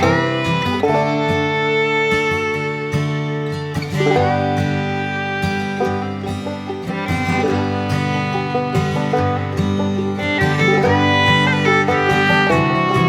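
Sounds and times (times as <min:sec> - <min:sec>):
banjo: 0:00.0 - 0:13.0
plucked guitar: 0:00.0 - 0:13.0.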